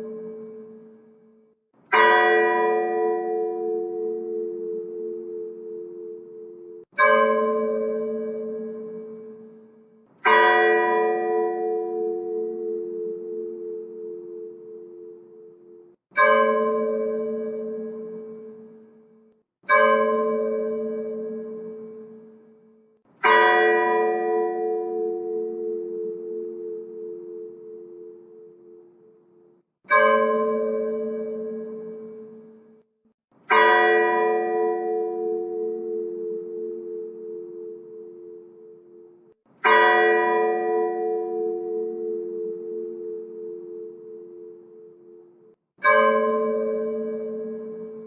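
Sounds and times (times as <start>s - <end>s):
church bell tolling: 0.0s - 32.9s, 33.5s - 48.0s.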